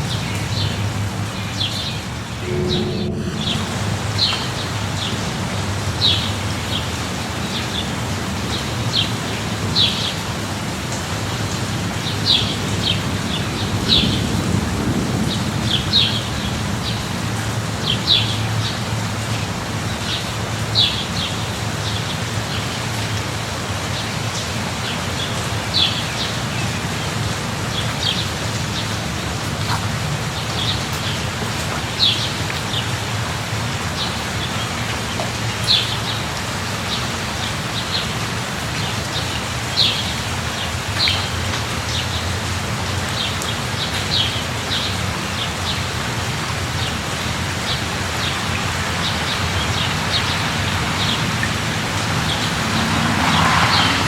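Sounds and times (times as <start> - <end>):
light rain falling: 6.1 - 54.0.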